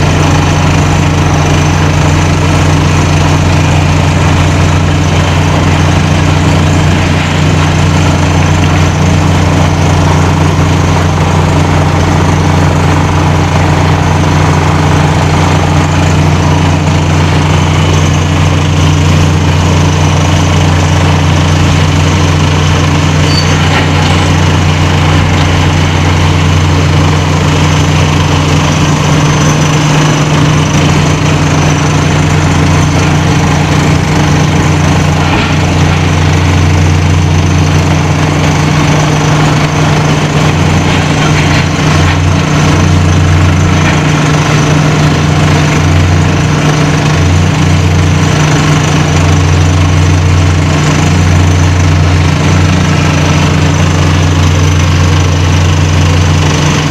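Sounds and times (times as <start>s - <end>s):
heavy machinery droning: 0.0s - 56.9s.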